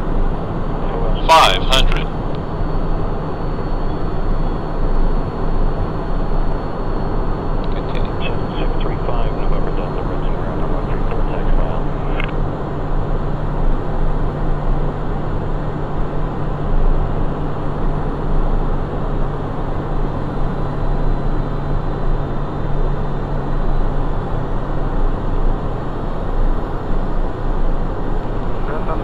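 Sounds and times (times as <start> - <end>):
jet cockpit airflow and engine noise: 0.0 - 29.0
low steady hum: 0.0 - 29.0.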